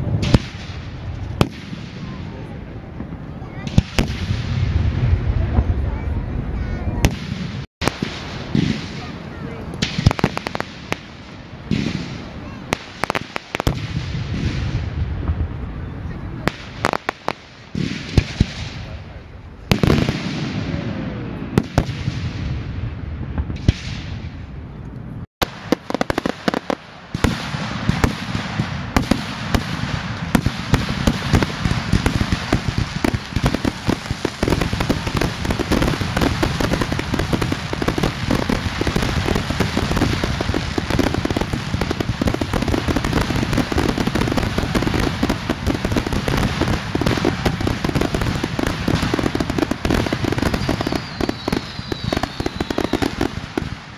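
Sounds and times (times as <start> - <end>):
fireworks bangs: 0.0 - 53.9
fireworks bursting and crackling: 0.0 - 53.9.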